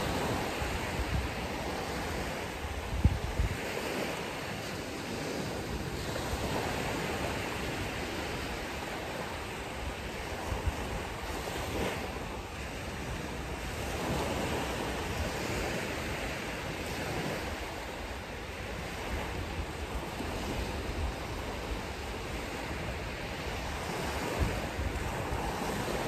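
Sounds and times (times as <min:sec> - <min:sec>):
ocean surf on a beach: 0:00.0 - 0:26.0
wind buffeting the microphone: 0:00.0 - 0:26.0.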